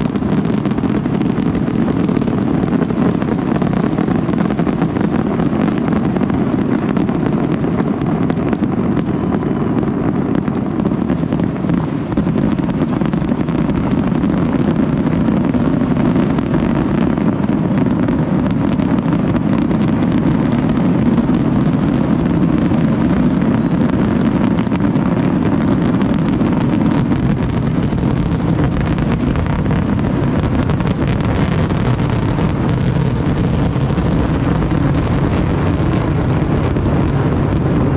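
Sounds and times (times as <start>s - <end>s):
distant fireworks rumble: 0.0s - 37.9s.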